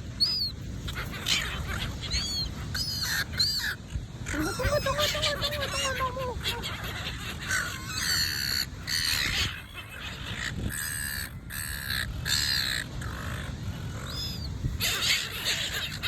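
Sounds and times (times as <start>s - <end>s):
seagulls calling: 0.0s - 16.0s.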